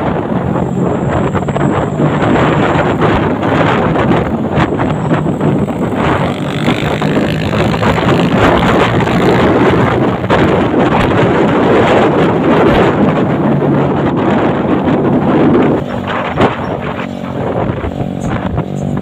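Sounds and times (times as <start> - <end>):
truck engine running: 0.0 - 19.0
wind buffeting microphone: 0.0 - 19.0.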